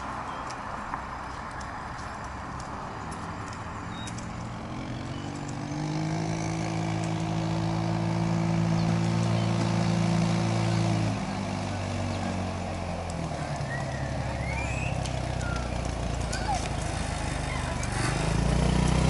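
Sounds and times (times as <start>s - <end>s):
go kart engine running: 0.7s - 19.0s.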